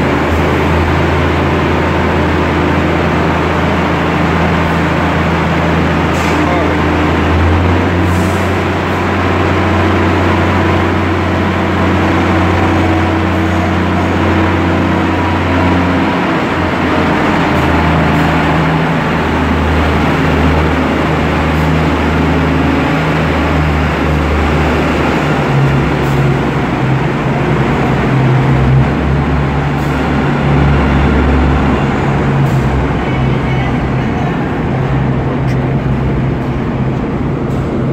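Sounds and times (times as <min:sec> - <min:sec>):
vacuum train machinery drone: 0:00.0 - 0:37.9.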